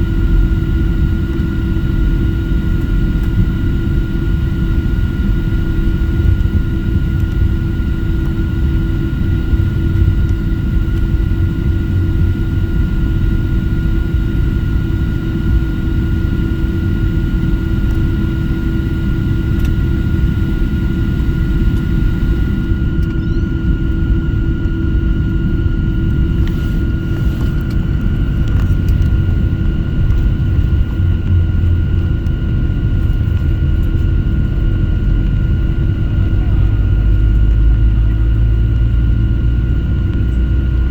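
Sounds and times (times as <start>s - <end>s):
airplane engines rumbling: 0.0s - 40.9s
engine whining tones: 7.9s - 40.9s.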